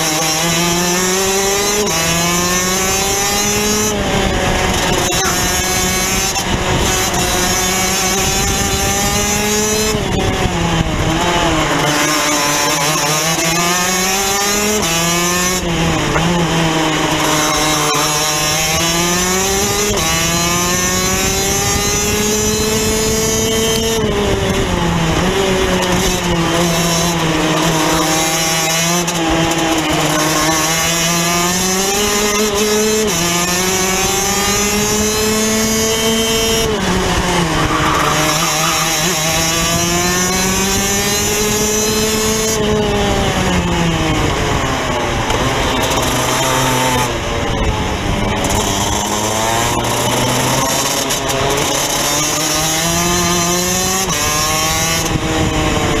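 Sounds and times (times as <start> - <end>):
two-stroke kart engine revving: 0.0 - 56.0.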